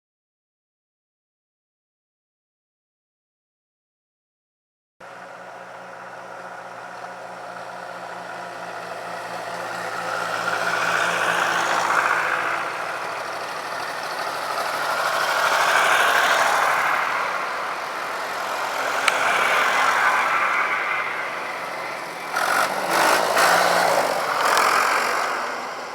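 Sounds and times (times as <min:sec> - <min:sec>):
tractor engines running: 0:05.0 - 0:25.9.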